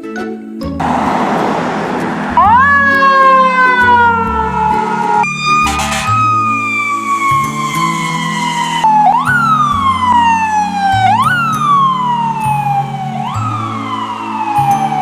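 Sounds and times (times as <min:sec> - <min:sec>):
emergency siren wailing: 0:00.8 - 0:15.0.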